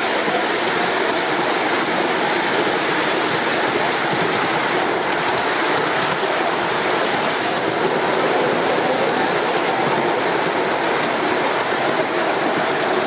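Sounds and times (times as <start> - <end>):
locomotive steam: 0.0 - 13.0
wheels rushing on rail: 0.0 - 13.0.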